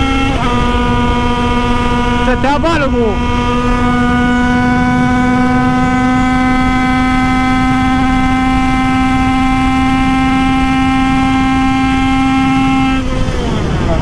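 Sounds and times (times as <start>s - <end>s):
moped engine at full throttle: 0.0s - 14.0s
wind rush: 0.0s - 14.0s.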